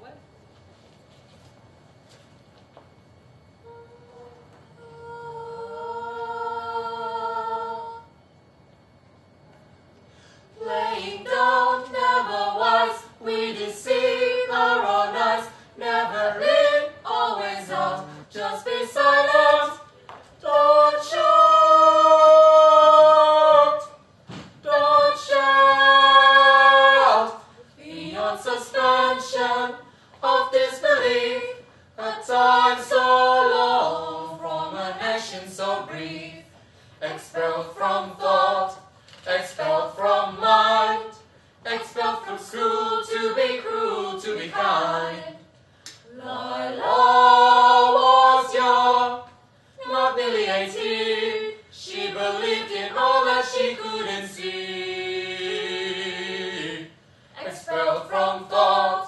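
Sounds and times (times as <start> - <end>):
group singing a cappella: 3.6 - 8.1, 10.5 - 59.0.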